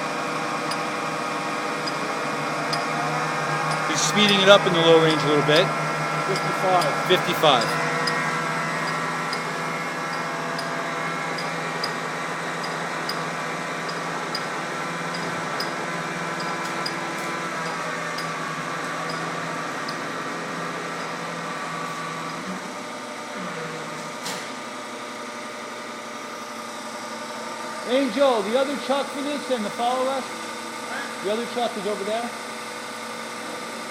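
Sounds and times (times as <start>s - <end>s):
lathe spindle drive humming: 0.0s - 23.5s, 24.5s - 33.9s.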